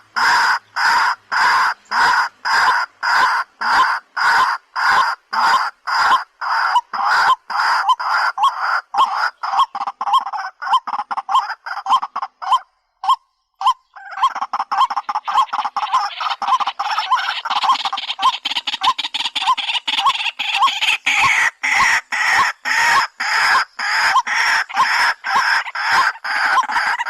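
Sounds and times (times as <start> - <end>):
waterhen croaking calls: 0.0 - 27.0.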